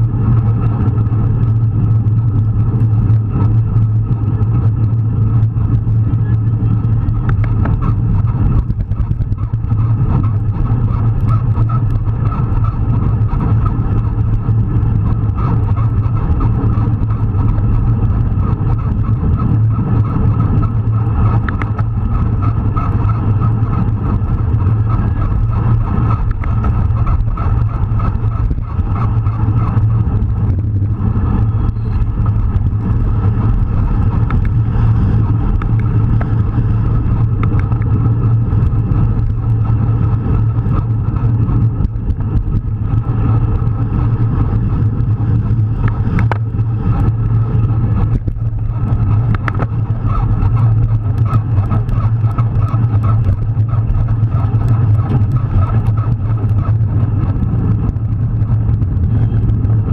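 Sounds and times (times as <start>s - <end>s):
bicycle tyre noise: 0.0s - 59.9s
low drone: 0.0s - 59.9s
wind rushing on microphone: 0.0s - 59.9s.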